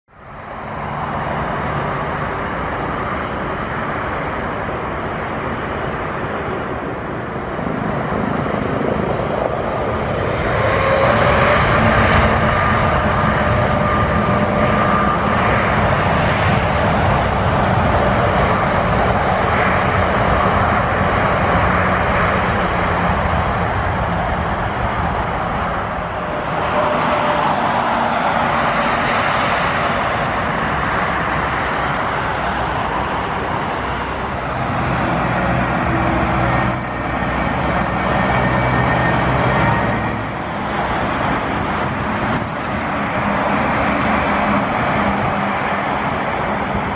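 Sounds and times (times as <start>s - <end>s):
faint engine whine: 0.1s - 46.9s
jet engines roaring: 0.1s - 46.9s.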